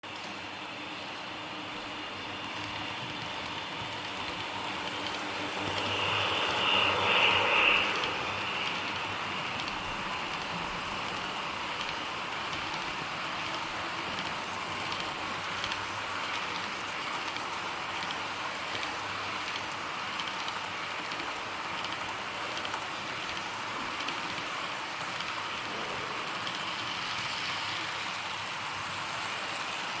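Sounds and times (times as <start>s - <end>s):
freight train rolling past: 0.0s - 30.0s.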